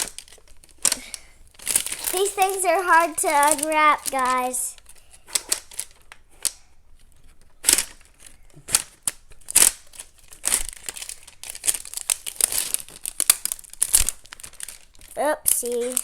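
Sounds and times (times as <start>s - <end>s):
wrapping crinkling and tearing: 0.0s - 16.0s.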